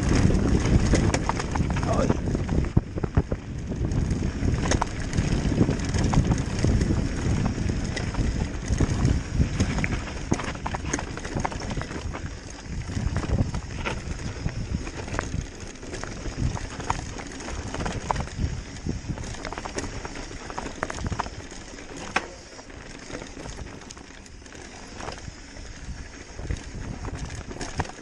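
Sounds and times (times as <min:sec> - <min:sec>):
bike rattling: 0:00.0 - 0:28.0
tyres crunching on gravel: 0:03.9 - 0:28.0.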